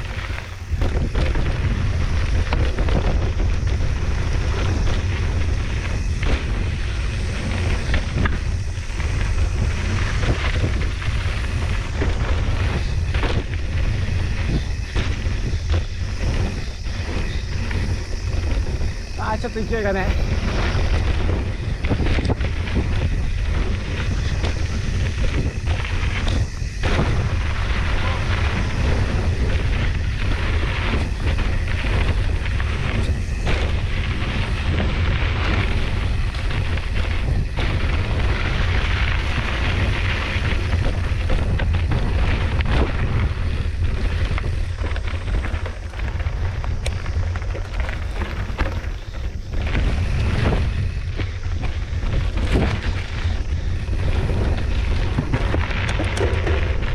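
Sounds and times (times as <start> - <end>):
bike knocking and rattling: 0.0 - 56.9
wind rushing over microphone: 0.0 - 56.9.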